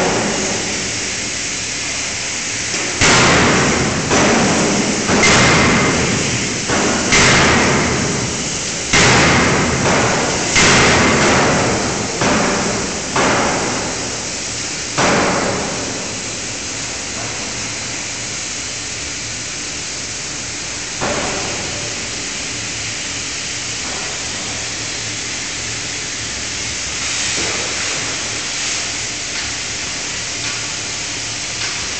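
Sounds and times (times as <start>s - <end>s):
steady background noise: 0.0s - 31.9s.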